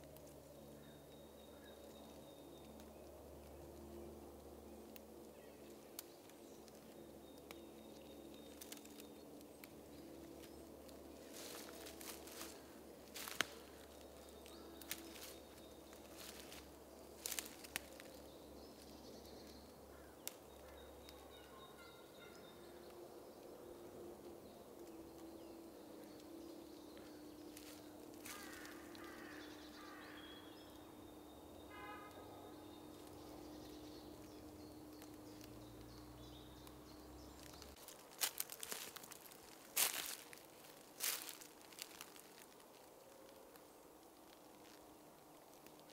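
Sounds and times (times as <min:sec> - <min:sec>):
faint birdsong: 0:00.0 - 0:45.9.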